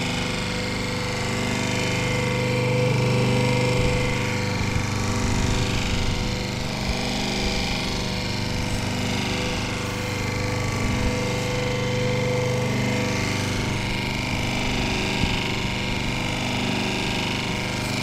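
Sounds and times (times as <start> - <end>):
food processor motor humming: 0.0 - 18.0.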